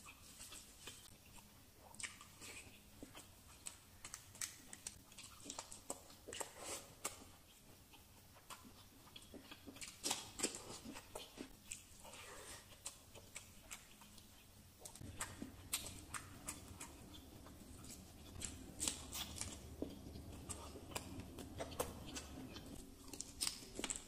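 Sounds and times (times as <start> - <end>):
close chewing with mouth clicks: 0.0 - 24.0.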